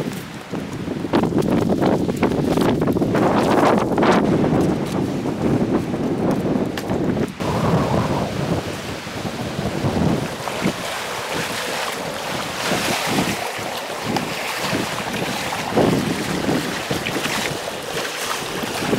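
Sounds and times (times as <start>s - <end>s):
waves washing against rocks: 0.0s - 18.9s
wind buffeting microphone: 0.0s - 18.9s.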